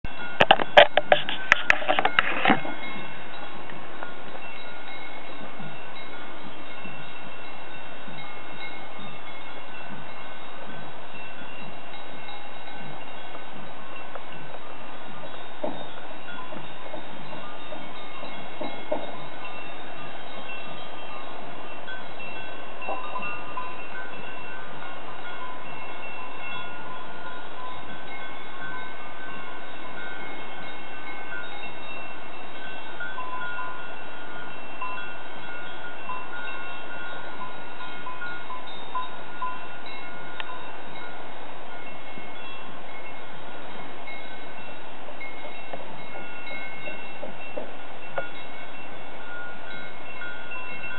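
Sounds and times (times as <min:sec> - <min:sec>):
cowbells ringing: 0:00.0 - 0:50.9.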